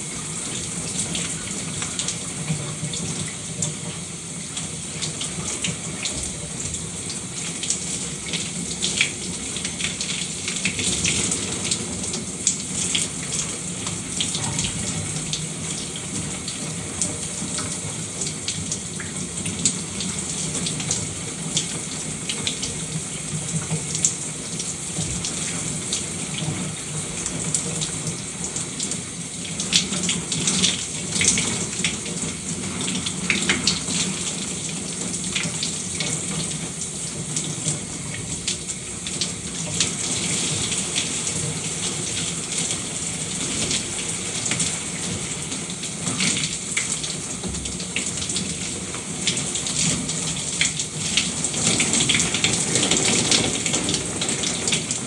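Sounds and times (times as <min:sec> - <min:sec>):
shower water running: 0:00.0 - 0:55.0.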